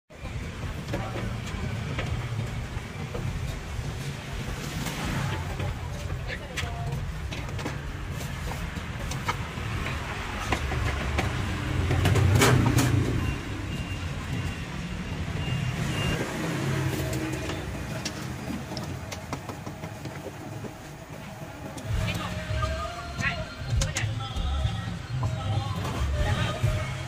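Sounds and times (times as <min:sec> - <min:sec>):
street traffic rumbling: 0:00.1 - 0:27.0.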